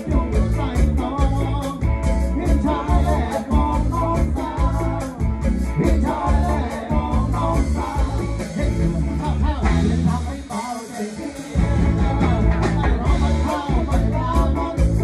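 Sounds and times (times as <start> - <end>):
live band playing: 0.0 - 15.0
man singing into a microphone: 0.0 - 15.0.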